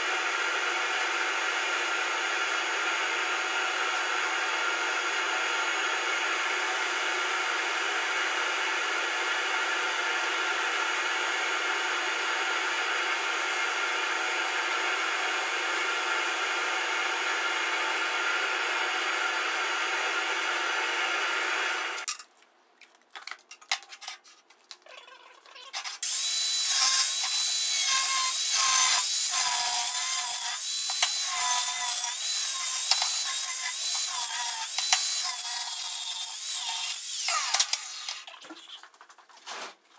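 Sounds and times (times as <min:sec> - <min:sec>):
power tool motor running: 0:00.2 - 0:22.1, 0:26.0 - 0:38.2.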